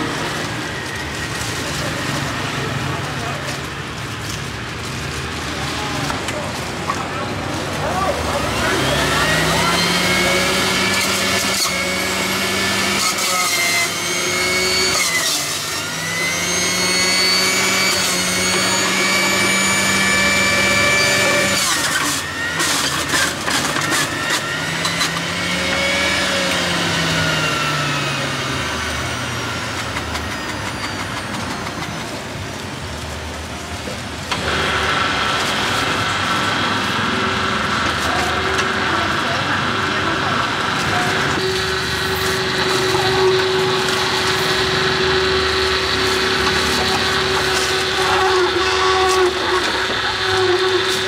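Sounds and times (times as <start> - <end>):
juicer motor running: 0.0 - 51.0.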